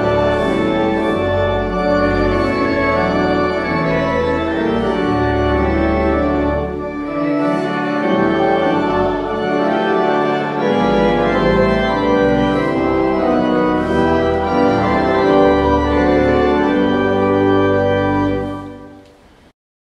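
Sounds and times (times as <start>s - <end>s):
pipe organ playing hymn chords: 0.0s - 19.1s.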